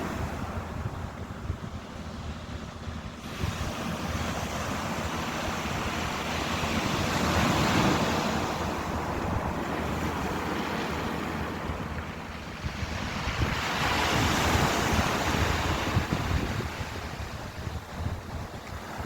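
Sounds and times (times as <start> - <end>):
ocean waves on shore: 0.0 - 19.0.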